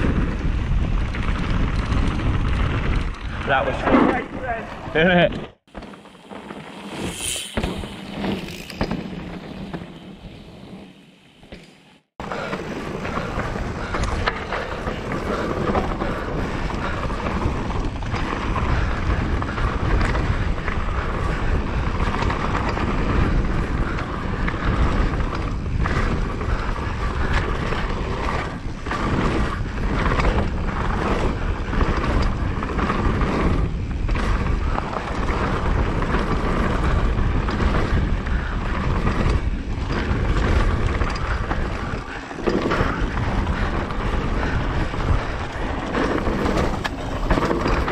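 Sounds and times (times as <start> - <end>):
wind buffeting microphone: 0.0 - 10.8, 12.1 - 47.9
bike tyres rumbling over rough ground: 0.0 - 47.9.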